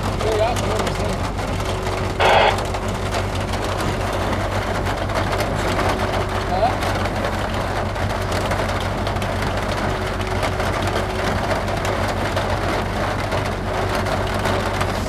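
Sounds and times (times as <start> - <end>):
engine idling hum: 0.0 - 15.0
rain pattering on a vehicle: 0.0 - 15.0.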